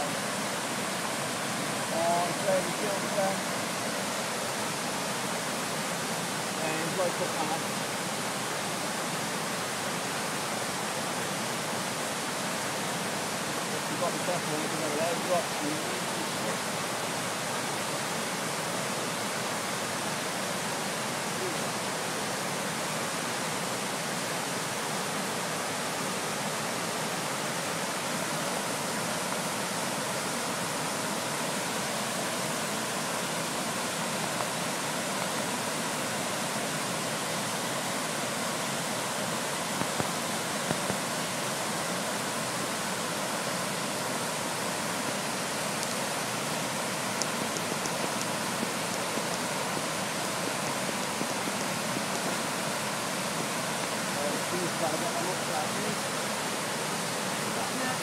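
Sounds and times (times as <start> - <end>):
water rushing over a weir: 0.0 - 58.0.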